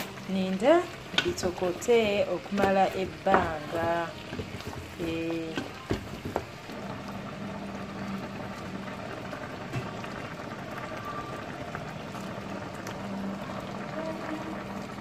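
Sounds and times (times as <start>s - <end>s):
sauce bubbling: 0.0s - 15.0s.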